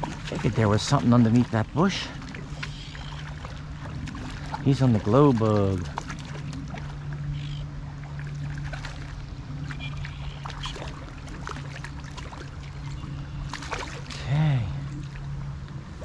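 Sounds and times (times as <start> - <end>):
small splashes and clicks: 0.0 - 15.8
steady low hum: 0.0 - 16.0
stream water running: 0.0 - 16.0.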